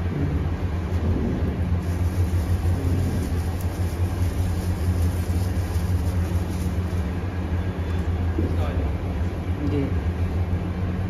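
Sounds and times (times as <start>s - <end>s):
low rumble with hum: 0.0s - 11.0s.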